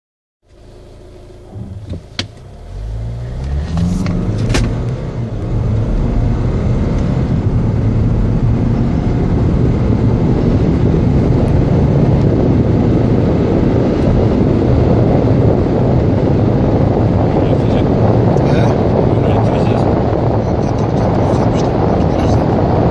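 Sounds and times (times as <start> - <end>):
car engine accelerating: 0.4 - 22.9
tyre and wind noise: 3.1 - 22.9.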